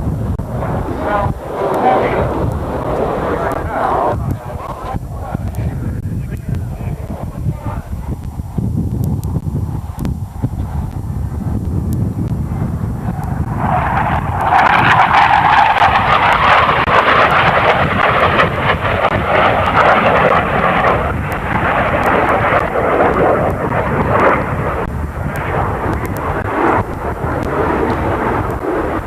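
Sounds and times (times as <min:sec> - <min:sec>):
jet aircraft passing overhead: 0:00.0 - 0:08.7, 0:09.4 - 0:29.0.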